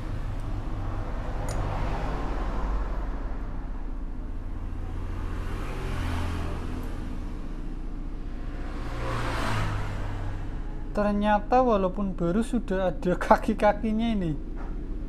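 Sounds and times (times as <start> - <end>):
low background rumble and hum: 0.0 - 15.0.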